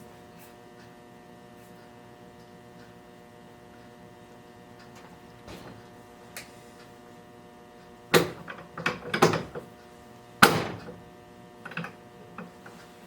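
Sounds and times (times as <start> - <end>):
faint shop hum: 0.0 - 13.0.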